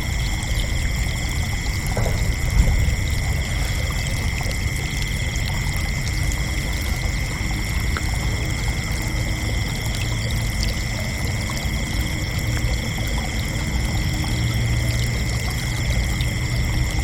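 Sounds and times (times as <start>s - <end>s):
crickets trilling: 0.0s - 17.0s
low steady rumble: 0.0s - 17.0s.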